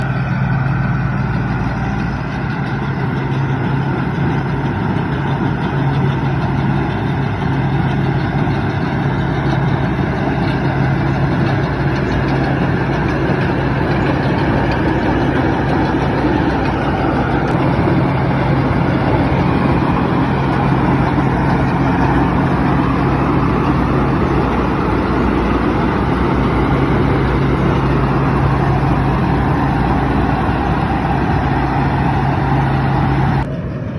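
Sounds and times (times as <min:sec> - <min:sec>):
farm machine engine droning: 0:00.0 - 0:33.9.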